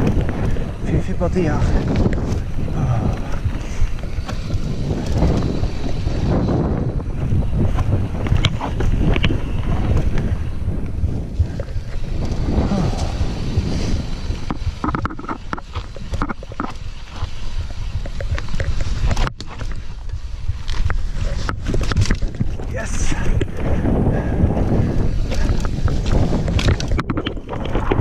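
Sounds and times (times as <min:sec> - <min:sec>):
bike rattling over bumps: 0:00.0 - 0:28.0
wind buffeting microphone: 0:00.0 - 0:28.0.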